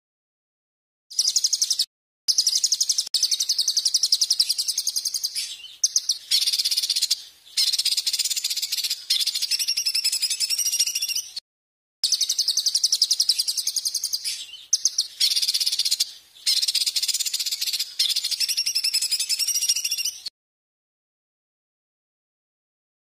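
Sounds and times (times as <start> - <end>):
songbird singing high trills: 1.1 - 11.4, 12.0 - 20.3.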